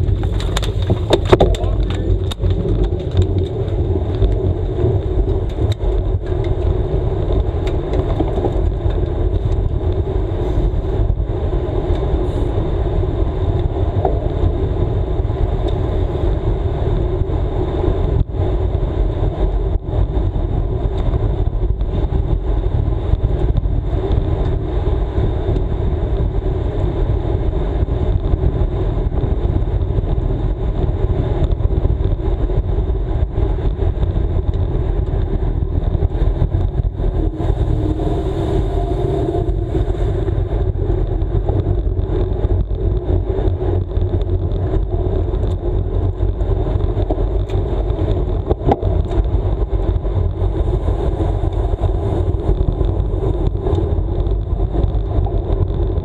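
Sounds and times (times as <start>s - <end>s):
tyres humming on asphalt: 0.0s - 56.0s
wind buffeting microphone: 0.0s - 56.0s.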